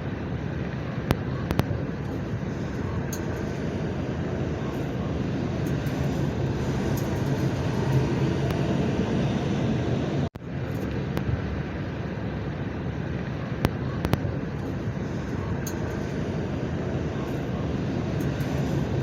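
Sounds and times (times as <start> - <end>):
bulldozer diesel engine drone: 0.0 - 19.0.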